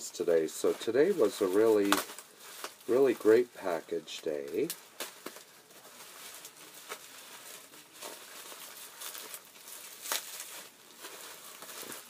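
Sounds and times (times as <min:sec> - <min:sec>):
packaging rustling and crinkling: 0:00.2 - 0:12.0.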